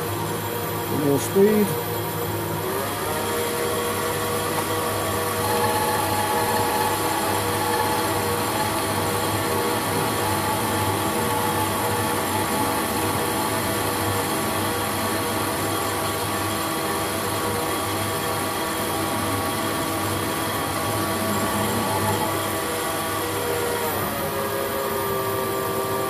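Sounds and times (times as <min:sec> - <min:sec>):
metal lathe whining: 0:00.0 - 0:26.0.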